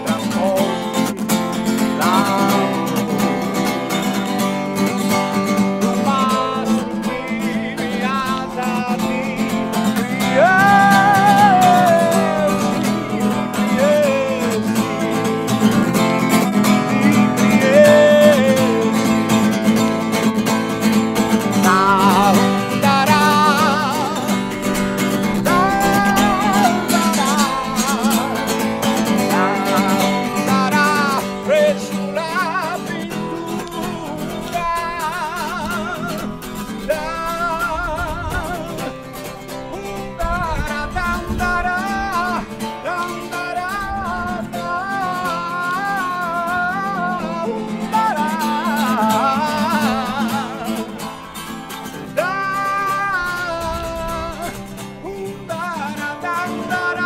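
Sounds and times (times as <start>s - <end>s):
acoustic guitar: 0.0s - 57.0s
person singing with vibrato: 0.0s - 57.0s.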